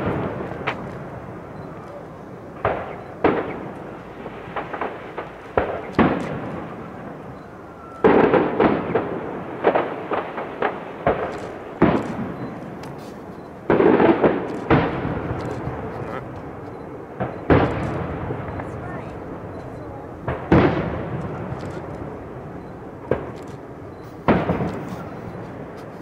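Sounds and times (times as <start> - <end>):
firework shells bursting: 0.0 - 26.0.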